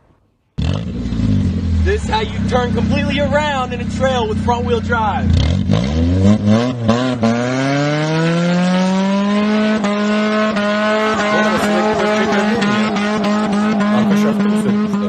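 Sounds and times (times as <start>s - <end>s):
car engine revving hard: 0.6s - 4.6s, 5.3s - 15.0s.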